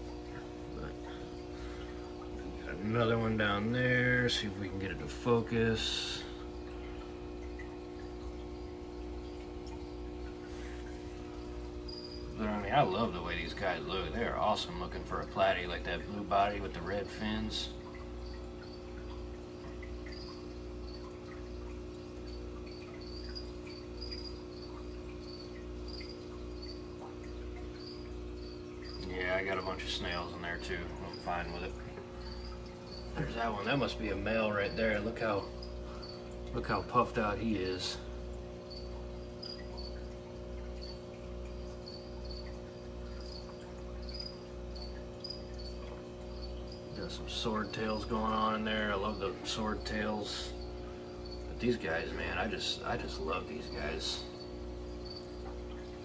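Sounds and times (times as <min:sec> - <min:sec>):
aquarium equipment humming: 0:00.0 - 0:56.0.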